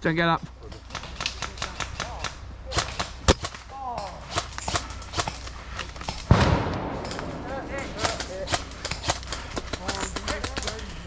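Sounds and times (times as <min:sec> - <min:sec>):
airsoft guns firing: 0:00.9 - 0:11.0.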